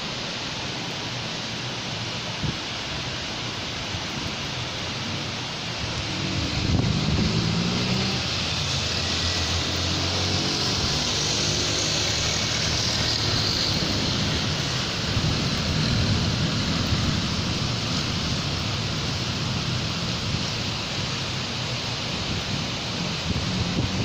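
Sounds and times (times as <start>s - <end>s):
rain falling on street: 0.0s - 24.0s
traffic rumble on wet road: 0.0s - 24.0s
vehicle engine hum: 4.4s - 24.0s.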